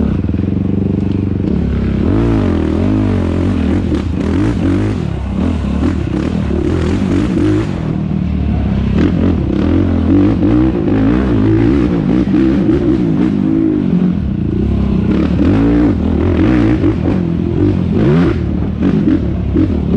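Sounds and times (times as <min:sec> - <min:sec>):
quad engine revving: 0:00.0 - 0:19.9.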